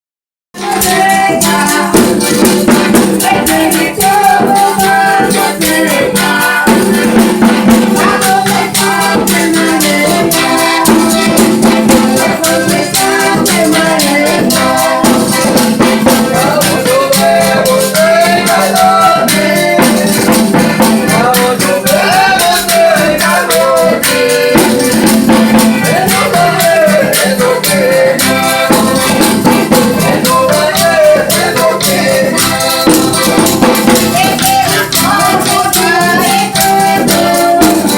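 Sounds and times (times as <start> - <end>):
jingling hand percussion: 0.6 - 37.9
wavering folk melody: 0.6 - 37.9.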